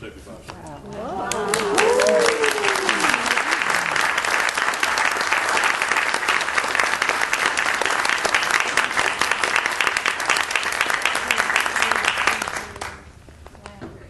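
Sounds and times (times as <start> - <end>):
audience applauding: 1.0 - 13.1.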